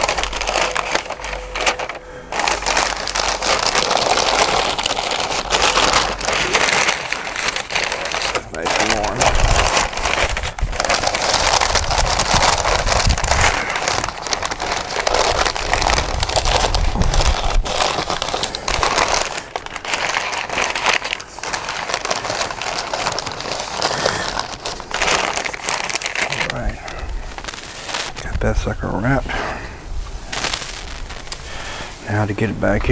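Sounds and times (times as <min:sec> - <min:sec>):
paper crinkling: 0:00.0 - 0:32.9.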